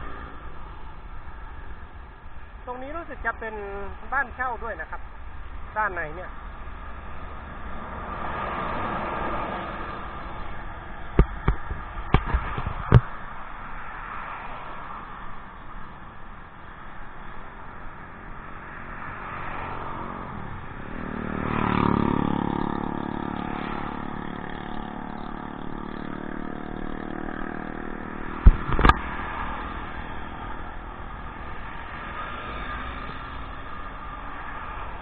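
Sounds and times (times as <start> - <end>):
motorcycle passing: 0.0 - 16.5, 17.2 - 35.0
road traffic: 0.0 - 35.0.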